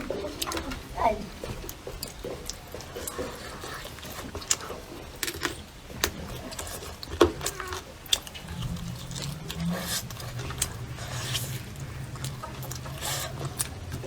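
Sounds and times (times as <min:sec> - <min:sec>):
low steady hum: 0:00.0 - 0:14.0
person chewing food: 0:00.0 - 0:14.0.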